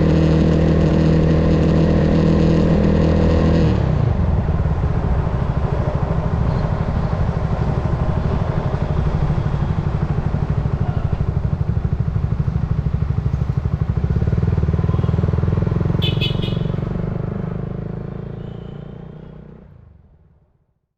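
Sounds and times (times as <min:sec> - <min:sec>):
motorcycle engine riding: 0:00.0 - 0:20.1.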